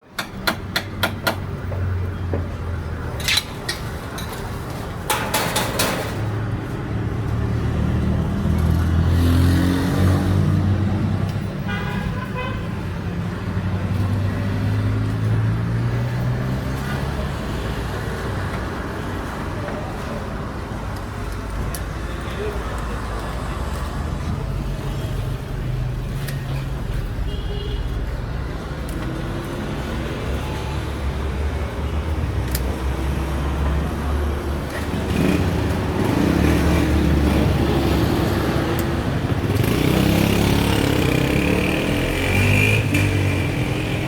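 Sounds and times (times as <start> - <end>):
traffic engine hum: 0.0 - 44.0.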